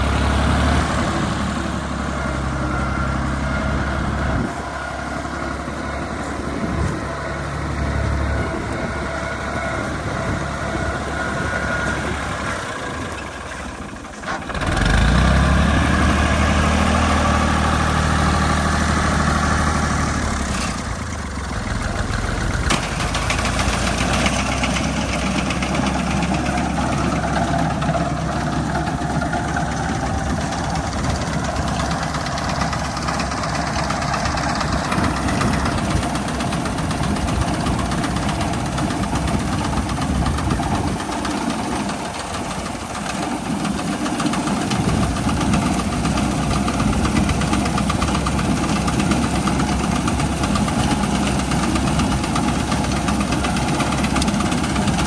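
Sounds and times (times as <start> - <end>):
tractor diesel engine chugging: 0.0 - 55.0.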